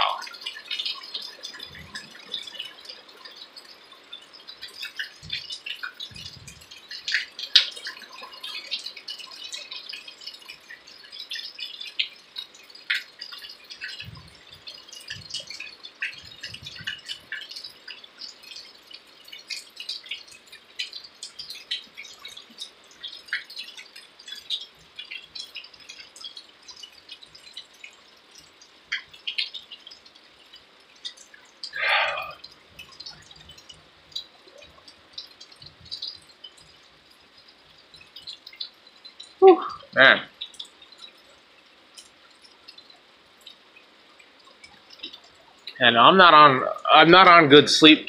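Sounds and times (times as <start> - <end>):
rain pattering: 0.0 - 48.0.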